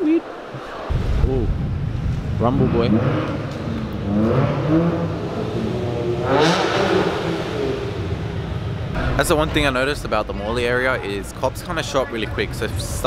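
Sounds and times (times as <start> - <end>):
car engine rumbling and revving: 0.8 - 13.0.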